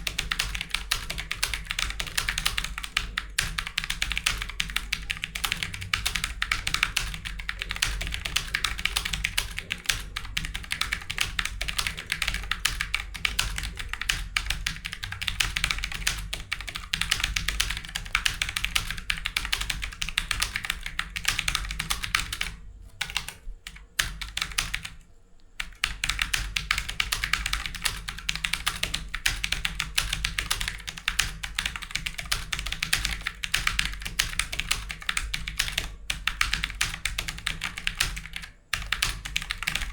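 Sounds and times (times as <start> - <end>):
fast typing on keyboard: 0.0 - 25.0, 25.6 - 39.9.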